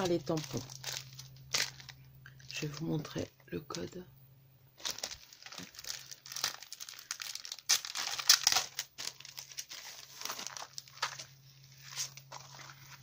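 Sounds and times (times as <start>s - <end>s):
plastic sleeve crinkling: 0.0s - 4.0s, 4.8s - 13.0s.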